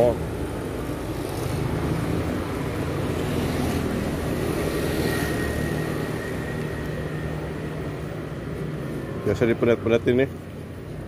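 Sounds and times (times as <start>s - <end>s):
motorbike and car engines: 0.0s - 11.0s
road noise: 0.0s - 11.0s.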